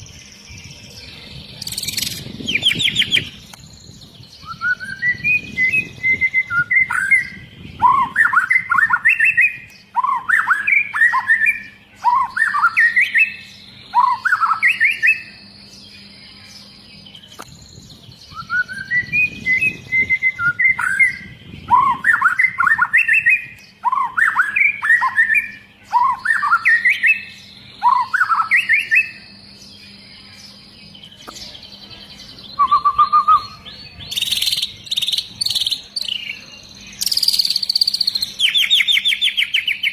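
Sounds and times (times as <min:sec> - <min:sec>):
songbird whistling phrases: 0:01.6 - 0:39.9.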